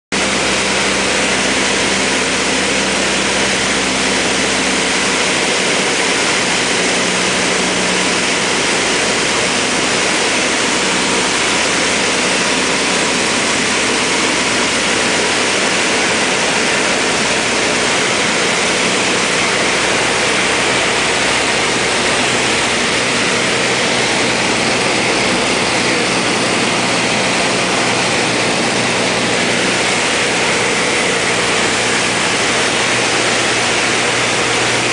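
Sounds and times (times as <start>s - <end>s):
propeller plane engine drone: 0.1s - 34.9s
rushing airflow: 0.1s - 34.9s.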